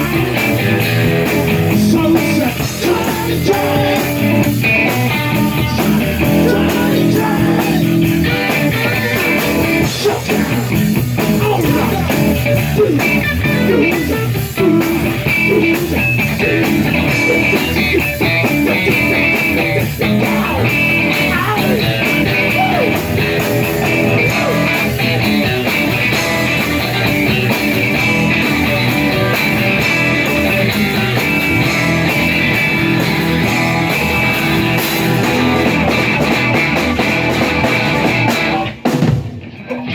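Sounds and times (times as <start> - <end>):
electric guitar: 0.0 - 39.9
live rock band playing: 0.0 - 39.9.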